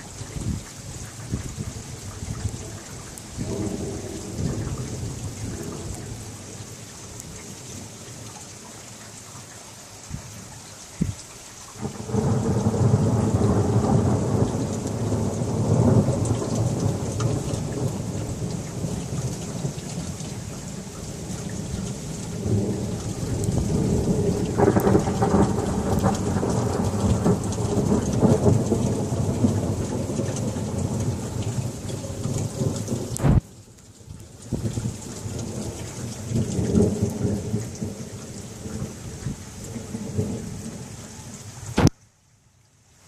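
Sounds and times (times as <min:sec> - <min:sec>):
steady rain: 0:00.0 - 0:43.0
crackling thunder peal: 0:01.3 - 0:07.6, 0:11.8 - 0:33.5, 0:34.3 - 0:40.9
thunder rumbling: 0:01.3 - 0:08.3, 0:11.8 - 0:33.5, 0:34.2 - 0:41.2.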